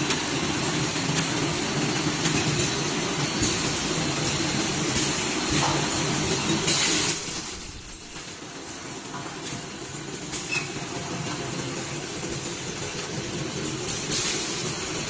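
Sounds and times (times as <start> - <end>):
packing machine hum: 0.0 - 15.0.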